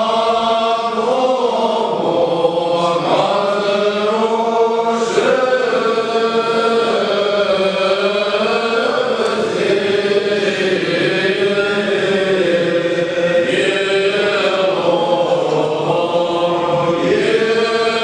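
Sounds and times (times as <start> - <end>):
men chanting a hymn: 0.0 - 18.0.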